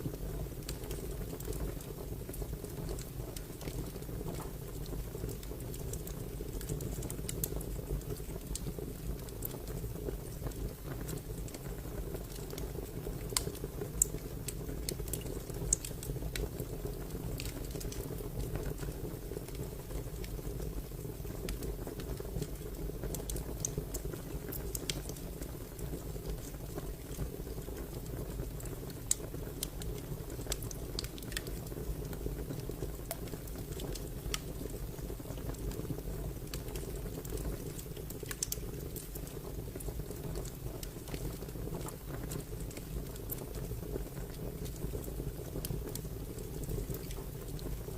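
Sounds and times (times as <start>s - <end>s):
fire crackling and popping: 0.0s - 47.9s.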